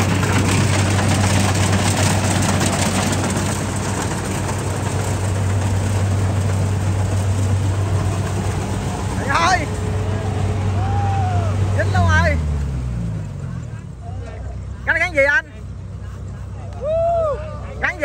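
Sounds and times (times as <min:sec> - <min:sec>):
combine harvester engine humming: 0:00.0 - 0:18.0.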